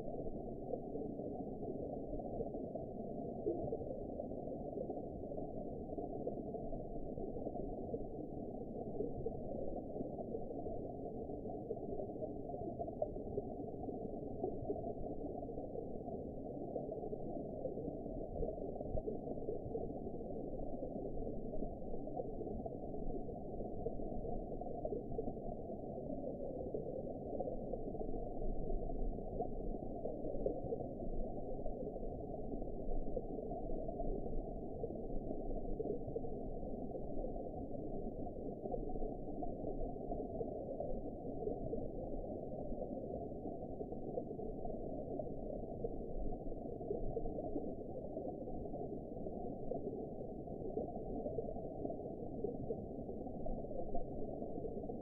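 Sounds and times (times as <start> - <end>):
muffled underwater rush of water: 0.0 - 55.0.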